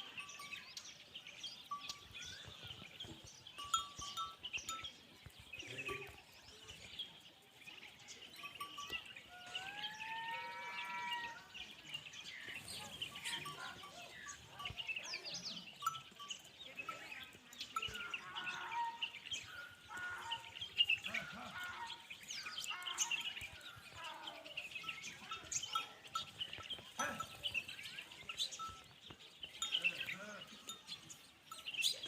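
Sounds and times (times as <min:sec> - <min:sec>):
neck bells clinking: 0:00.0 - 0:06.9, 0:08.0 - 0:09.7, 0:12.2 - 0:32.0
birds chirping: 0:00.0 - 0:32.0.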